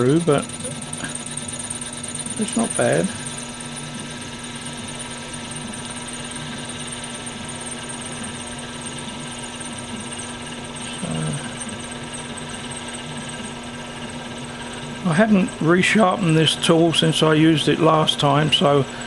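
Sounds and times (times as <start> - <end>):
metal lathe motor hum and whine: 0.0 - 19.0.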